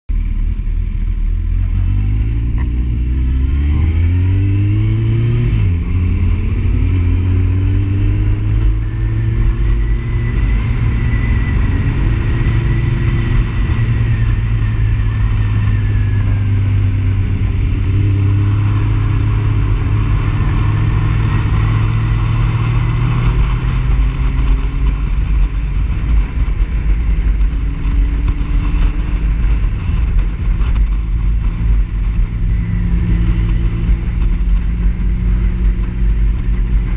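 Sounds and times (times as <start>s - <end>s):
motorcycle engine revving: 0.2s - 36.9s.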